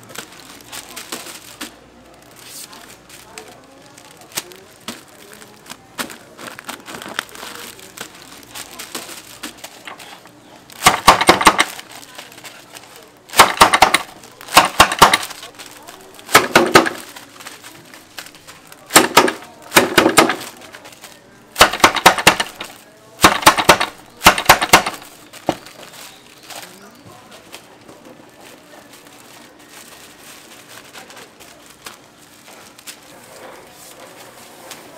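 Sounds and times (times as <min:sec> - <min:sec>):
seaweed sheets crackling: 0:00.0 - 0:34.9.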